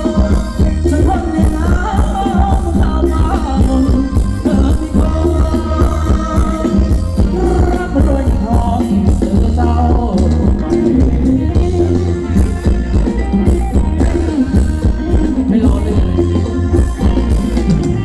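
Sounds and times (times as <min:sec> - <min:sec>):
live band dance music: 0:00.0 - 0:18.0.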